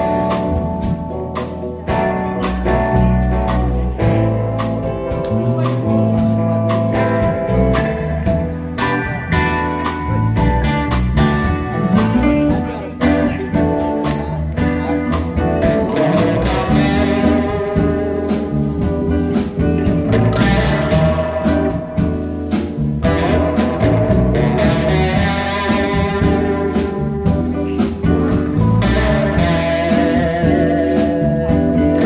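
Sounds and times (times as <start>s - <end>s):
drums: 0.0s - 32.0s
electric bass: 0.0s - 32.0s
electric guitars: 0.0s - 32.0s.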